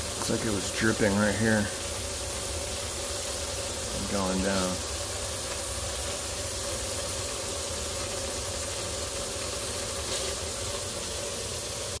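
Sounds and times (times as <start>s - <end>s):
low rumble of garbage disposal: 0.0s - 12.0s
water running down sink drain: 0.0s - 12.0s.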